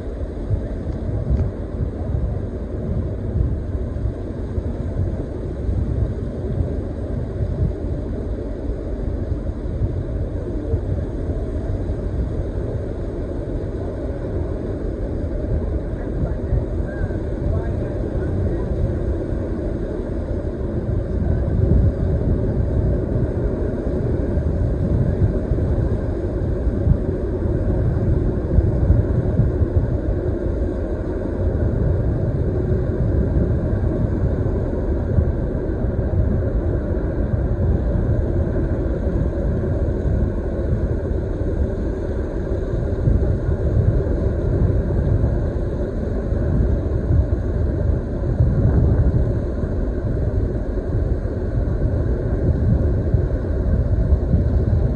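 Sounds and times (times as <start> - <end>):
ship engine rumble: 0.0 - 54.9.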